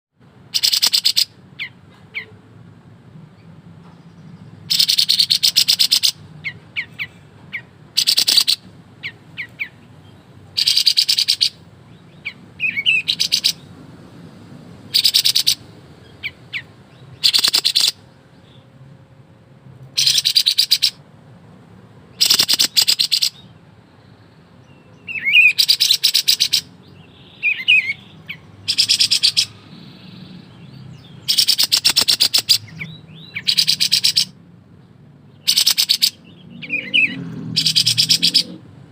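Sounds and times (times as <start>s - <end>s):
songbird rattling song bursts: 0.4s - 2.3s, 4.0s - 18.8s, 19.8s - 21.0s, 21.8s - 34.5s, 35.2s - 38.9s.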